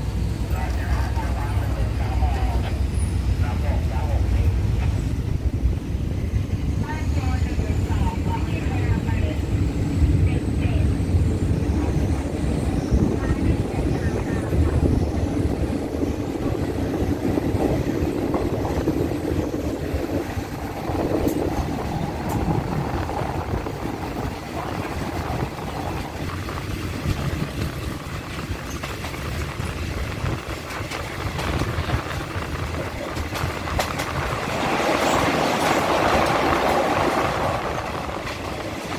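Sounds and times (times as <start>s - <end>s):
rail clicks: 0.0s - 38.9s
train wheels rumbling on rails: 0.0s - 38.9s.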